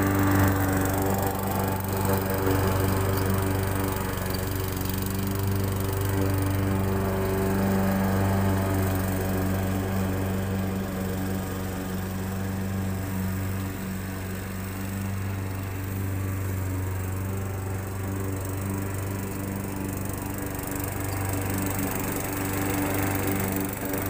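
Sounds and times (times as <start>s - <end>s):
push mower engine running: 0.0s - 24.0s.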